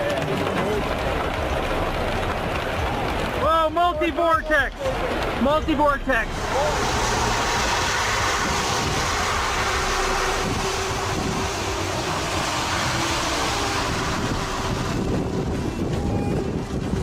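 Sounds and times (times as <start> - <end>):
rushing wind: 0.0 - 17.0
vehicle noise: 0.0 - 17.0.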